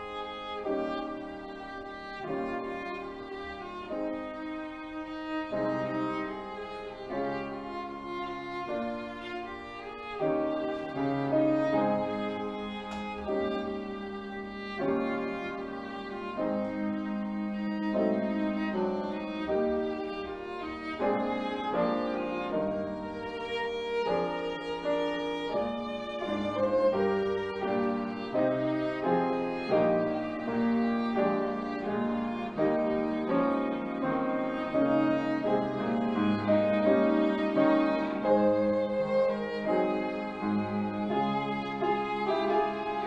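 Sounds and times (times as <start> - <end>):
piano accompaniment: 0.0 - 43.0
solo violin melody: 0.0 - 43.0.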